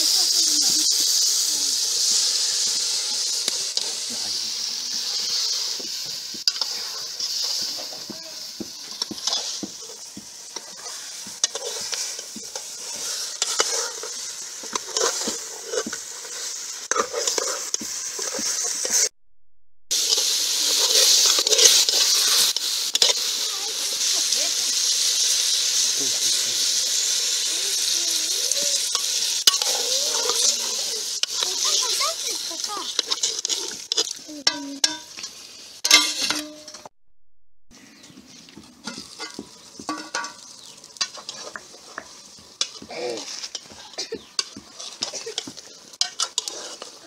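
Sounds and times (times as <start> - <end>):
chicken sizzling in hot oil: 0.0 - 19.1, 19.9 - 36.9, 37.9 - 47.0.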